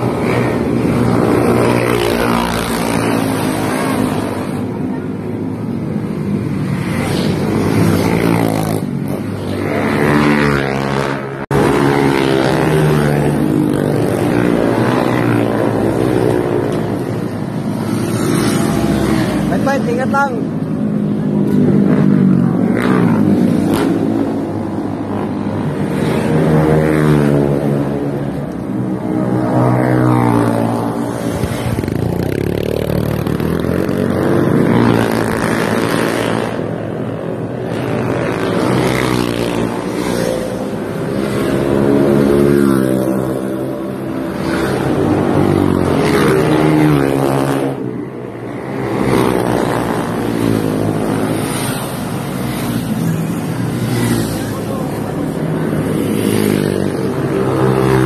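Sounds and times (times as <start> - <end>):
motorcycle engines revving past: 0.0 - 20.0, 20.6 - 58.0.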